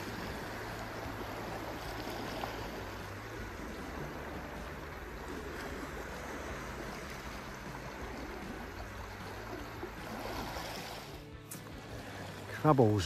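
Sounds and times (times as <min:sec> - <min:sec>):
sea water lapping against rocks: 0:00.0 - 0:13.0.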